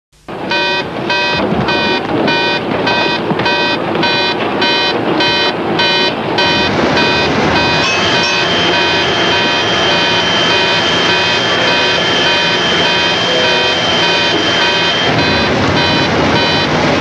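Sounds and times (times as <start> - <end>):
pulsing alarm: 0.3 - 17.0
steady high tone: 0.3 - 17.0.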